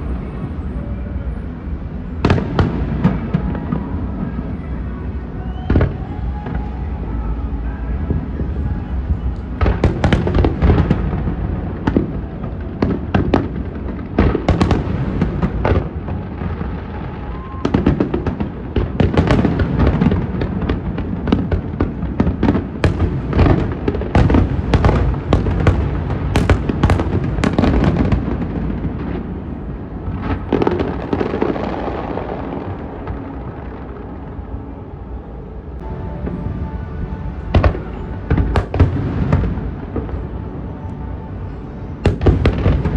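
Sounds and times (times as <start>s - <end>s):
fireworks bangs and crackling: 0.0s - 41.2s, 41.8s - 42.9s.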